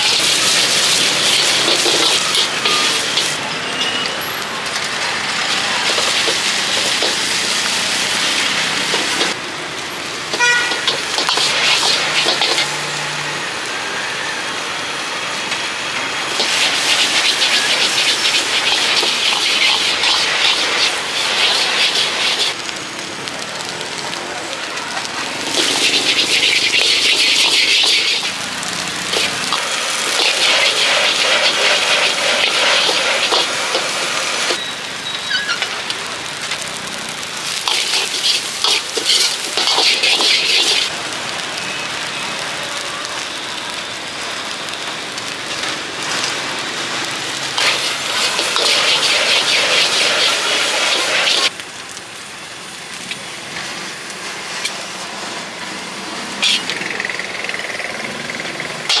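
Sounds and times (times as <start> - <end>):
street noise: 0.0 - 59.0
wok sizzling: 0.0 - 59.0.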